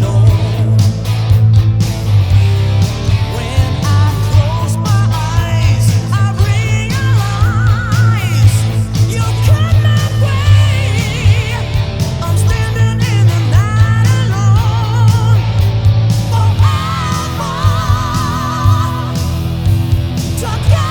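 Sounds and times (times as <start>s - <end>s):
person singing: 0.0s - 1.1s, 3.2s - 15.5s, 16.3s - 19.5s, 20.3s - 20.9s
electric guitar: 0.0s - 20.9s
heavy bass: 0.0s - 20.9s
rock song: 0.0s - 20.9s.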